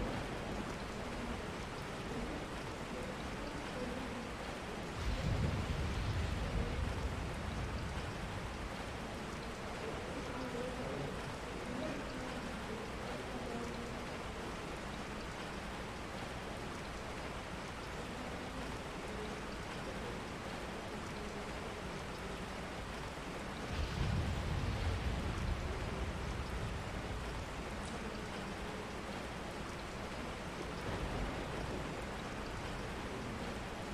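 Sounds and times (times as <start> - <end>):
faint murmur of voices: 0.0 - 33.9
steady rain: 0.0 - 33.9.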